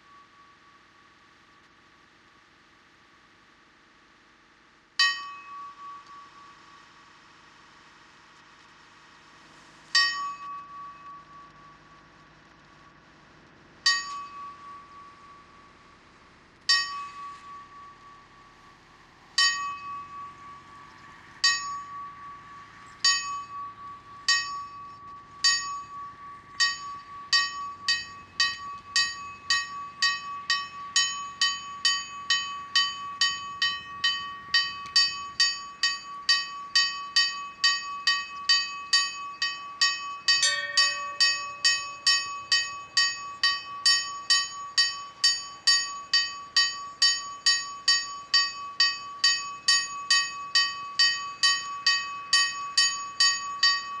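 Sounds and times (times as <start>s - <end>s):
small church bell ringing: 5.0s - 7.0s, 9.9s - 12.3s, 13.8s - 54.0s
lower bell stroke: 5.0s - 13.2s, 13.8s - 54.0s.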